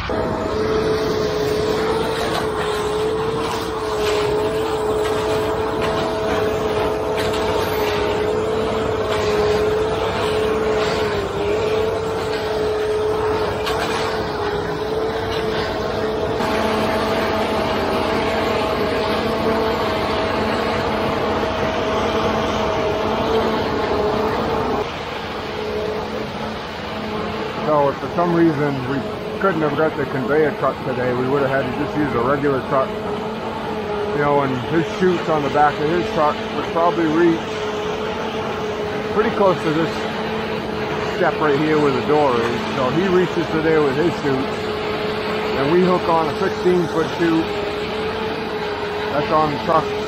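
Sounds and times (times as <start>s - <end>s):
conveyor two-note whine: 0.0s - 50.0s
truck engine noise: 0.0s - 50.0s.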